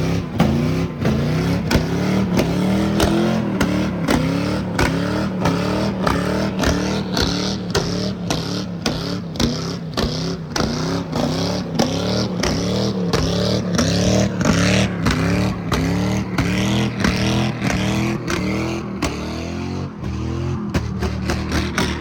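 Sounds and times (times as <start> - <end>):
car engine revving in blips: 0.0 - 22.0
exhaust cracks and pops: 0.3 - 19.4, 20.0 - 22.0.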